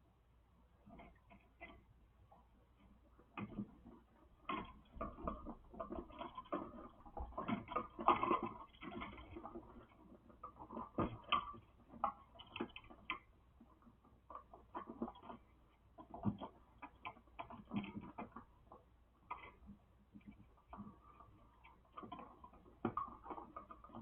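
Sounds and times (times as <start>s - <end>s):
electrical wires clicking and tapping: 0.8s - 24.0s.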